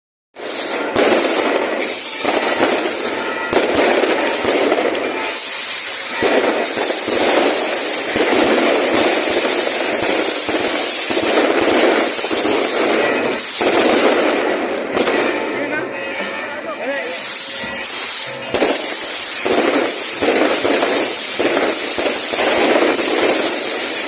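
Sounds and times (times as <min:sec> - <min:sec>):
fireworks popping and crackling: 0:00.4 - 0:16.0, 0:17.0 - 0:24.0.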